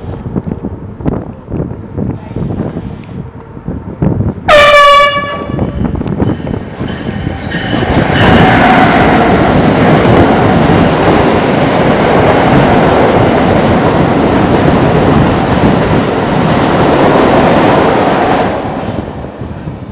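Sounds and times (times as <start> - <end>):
train wheels rumbling on rail: 0.0 - 19.9.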